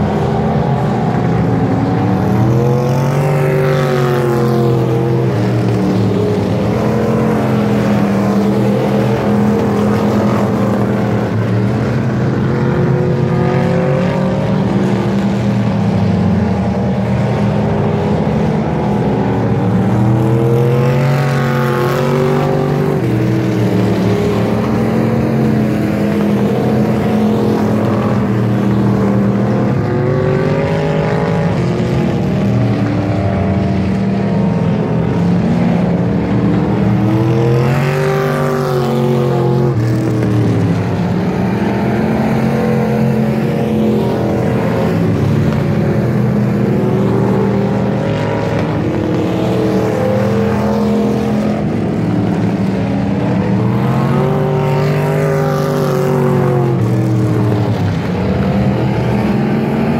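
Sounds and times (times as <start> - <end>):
race car engines droning: 0.0 - 59.9.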